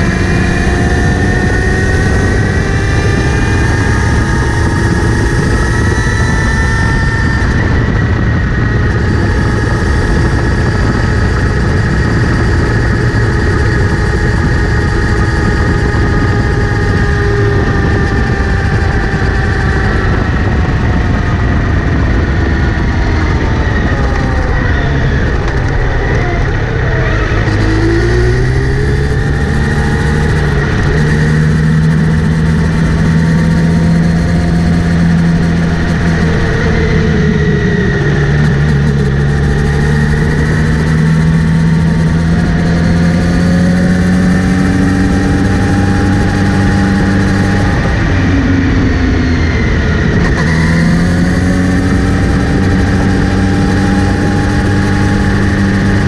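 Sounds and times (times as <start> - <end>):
motorcycle engine revving: 0.0 - 56.0
steady high-pitched whine: 0.0 - 56.0.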